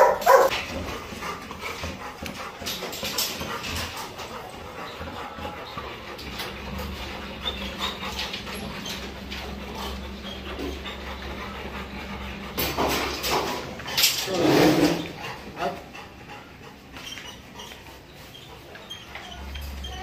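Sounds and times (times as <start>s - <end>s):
dog whimpering and panting: 0.0s - 20.0s.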